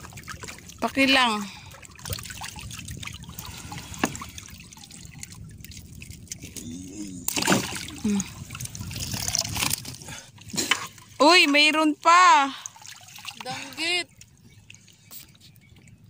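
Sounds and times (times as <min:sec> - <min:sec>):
water splashing against boat: 0:00.0 - 0:16.0
wet net hauled over boat side: 0:00.0 - 0:16.0.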